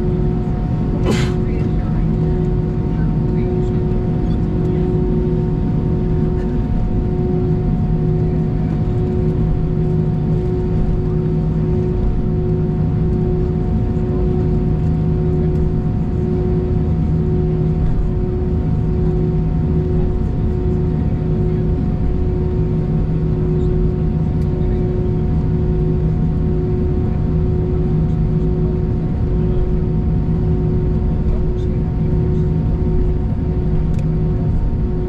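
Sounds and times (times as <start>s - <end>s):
aircraft cabin hum: 0.0s - 35.0s.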